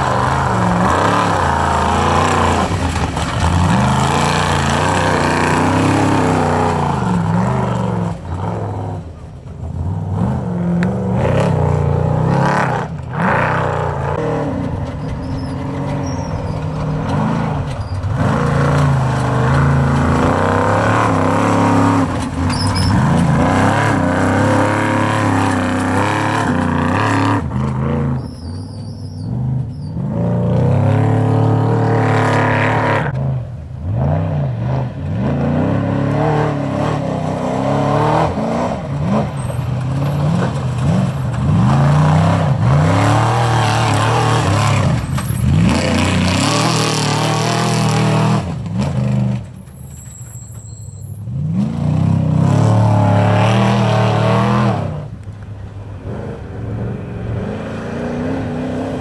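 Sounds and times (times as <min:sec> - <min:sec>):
race truck engines revving: 0:00.0 - 0:59.0.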